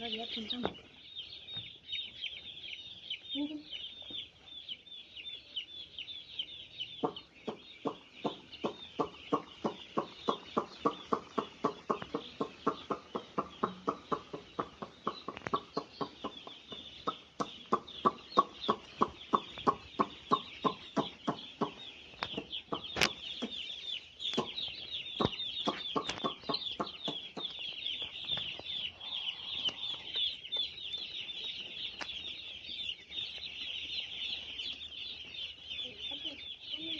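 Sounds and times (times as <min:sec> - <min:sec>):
chicks cheeping: 0:00.0 - 0:36.9.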